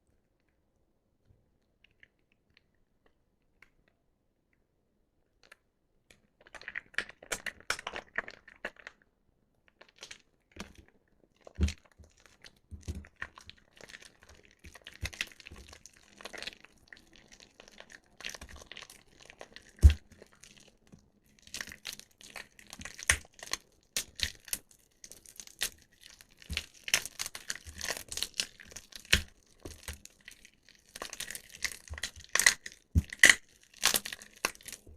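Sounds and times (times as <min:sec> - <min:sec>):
wet soap crackling and squelching: 0:00.0 - 0:34.9.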